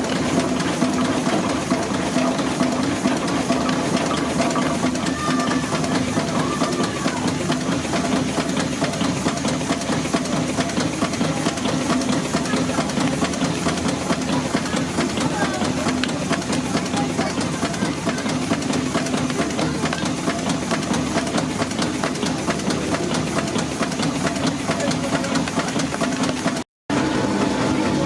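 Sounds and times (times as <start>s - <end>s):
steam engine beating: 0.0s - 28.0s.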